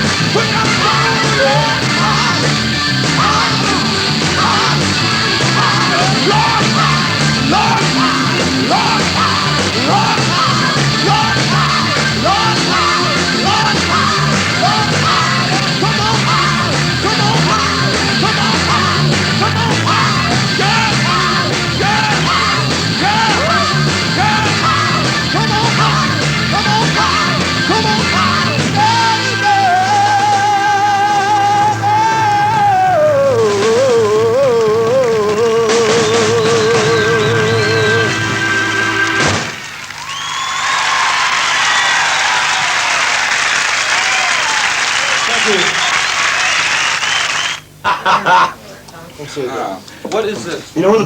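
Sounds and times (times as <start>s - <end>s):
rock band playing: 0.0s - 47.8s.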